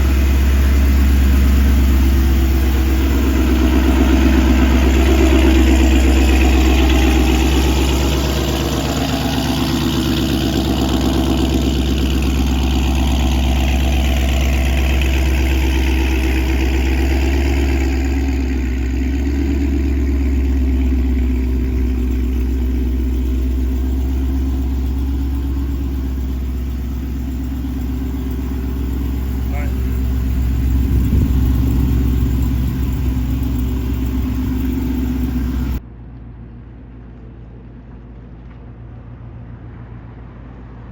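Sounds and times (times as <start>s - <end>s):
car engine idling with deep rumble: 0.0s - 39.8s.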